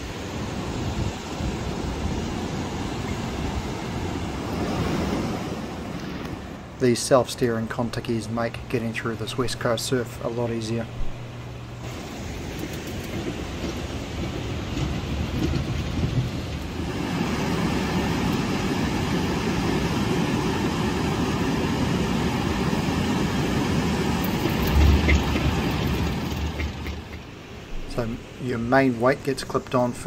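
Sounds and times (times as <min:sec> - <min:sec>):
heavy surf breaking: 0:00.0 - 0:30.0.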